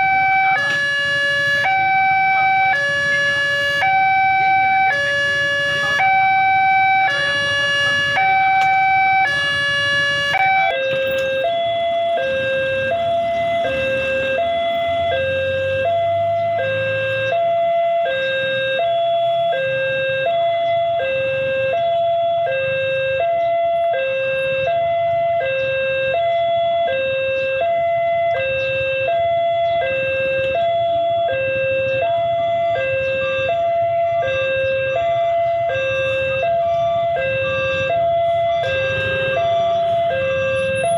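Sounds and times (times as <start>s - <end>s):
level crossing two-tone alarm: 0.0s - 40.9s
road traffic engine rumble: 0.0s - 40.9s.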